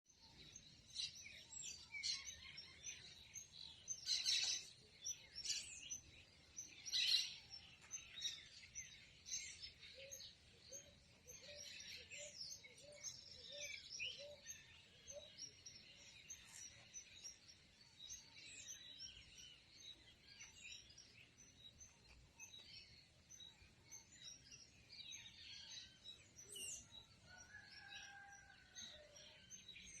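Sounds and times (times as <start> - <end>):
birds chirping and calling: 0.2 - 30.0.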